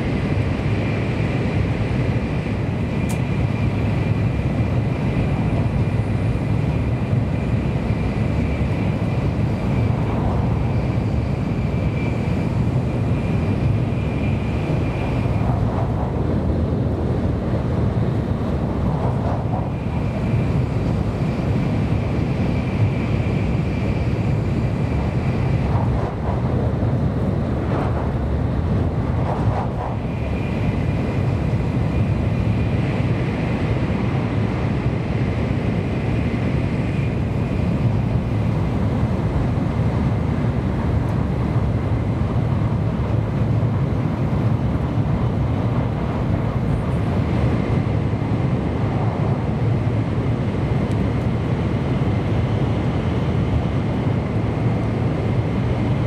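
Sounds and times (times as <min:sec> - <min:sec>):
train cabin running noise: 0:00.0 - 0:56.0.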